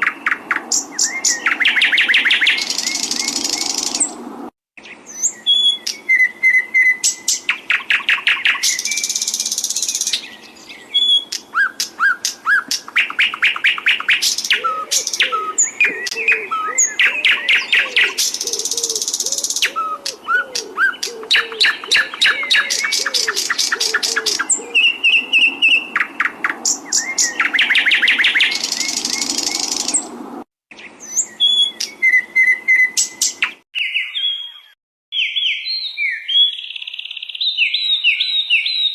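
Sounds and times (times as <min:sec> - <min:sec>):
songbird singing trills: 0:00.0 - 0:04.2, 0:04.8 - 0:38.9.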